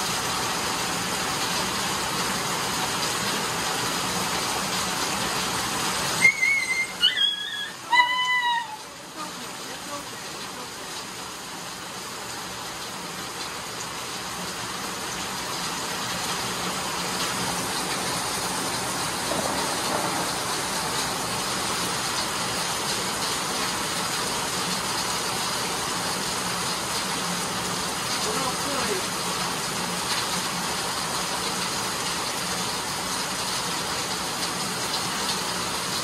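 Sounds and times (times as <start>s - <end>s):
steady rain falling: 0.0s - 36.0s.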